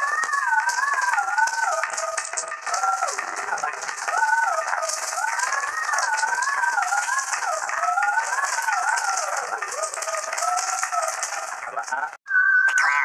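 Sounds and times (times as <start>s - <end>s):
wavering cartoon tune: 0.0s - 13.0s.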